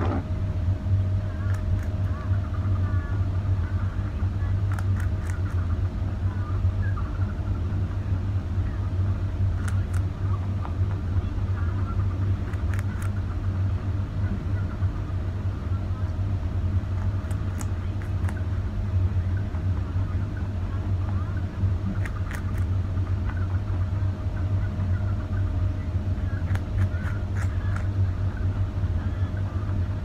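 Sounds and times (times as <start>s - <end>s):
loud low hum: 0.0s - 30.0s
rabbit crunching carrot: 0.8s - 30.0s.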